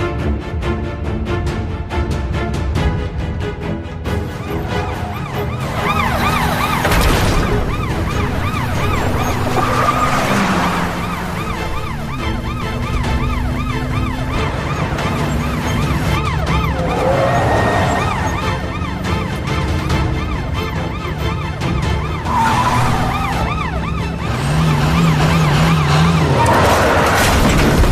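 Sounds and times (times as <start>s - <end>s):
vehicle engines running: 1.4s - 27.9s
police sirens yelping: 4.1s - 27.2s.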